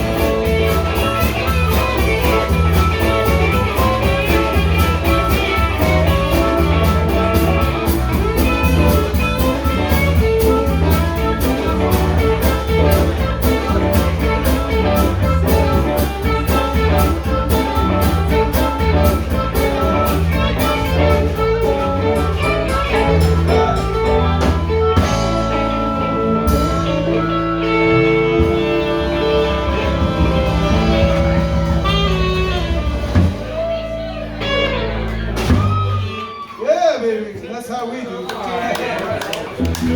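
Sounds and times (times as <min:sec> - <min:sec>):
drum kit beat: 0:00.0 - 0:36.1
bass guitar: 0:00.0 - 0:36.6, 0:39.0 - 0:39.9
electric guitar: 0:00.0 - 0:36.6, 0:39.2 - 0:39.9.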